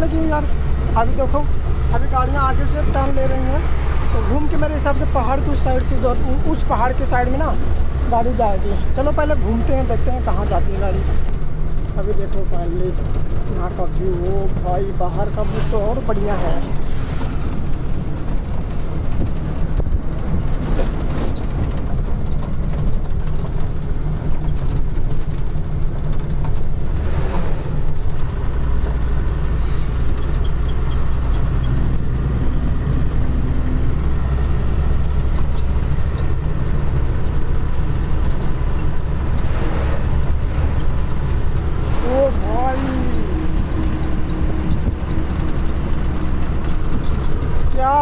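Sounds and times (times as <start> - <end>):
road noise: 0.0 - 48.0
truck engine droning: 0.0 - 48.0.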